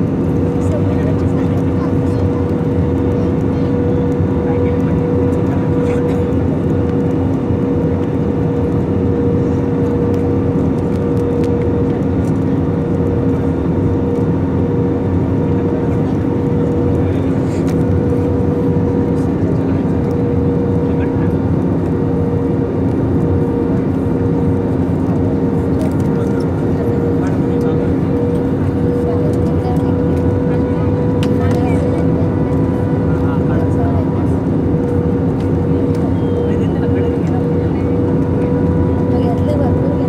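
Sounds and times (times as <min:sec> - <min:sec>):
aircraft engines droning: 0:00.0 - 0:40.0.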